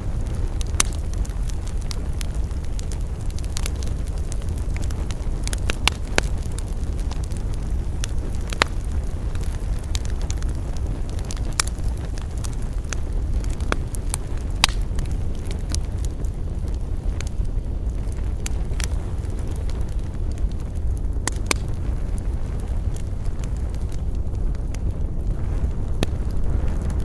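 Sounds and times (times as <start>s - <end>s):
campfire flames rushing: 0.0s - 27.0s
fire crackling and popping: 0.0s - 27.0s.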